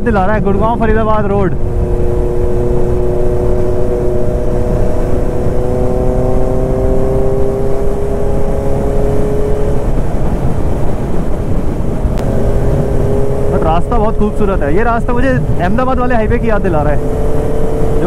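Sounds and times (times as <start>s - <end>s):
motorcycle engine at speed: 0.0s - 18.0s
wind noise: 0.0s - 18.0s.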